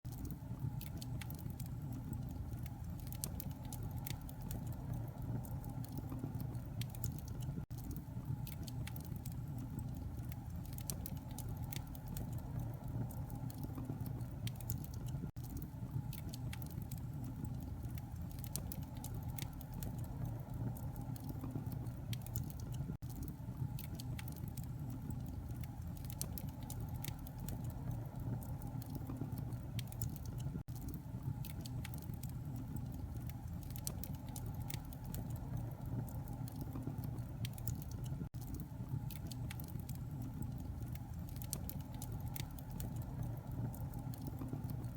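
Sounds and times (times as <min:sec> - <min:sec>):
steady low rumble: 0:00.1 - 0:44.9
wood fire crackling and popping: 0:00.1 - 0:44.9.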